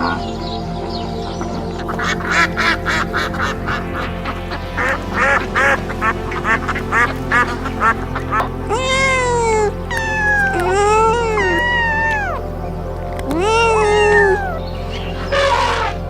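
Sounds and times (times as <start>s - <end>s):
background music: 0.0s - 16.0s
duck quacking: 1.9s - 12.4s, 13.4s - 16.0s.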